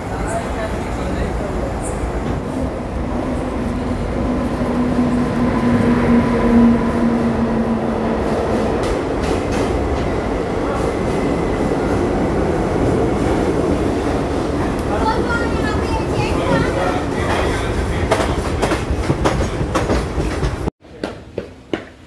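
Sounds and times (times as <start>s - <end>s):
train coach rumbling on rails: 0.0s - 20.7s.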